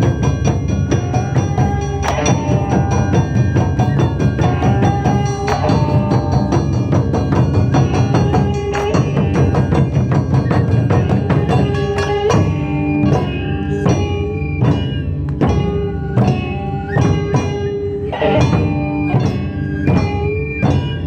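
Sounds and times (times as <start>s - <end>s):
drums in rapid rhythm: 0.0s - 21.0s
held melody line: 0.0s - 21.0s.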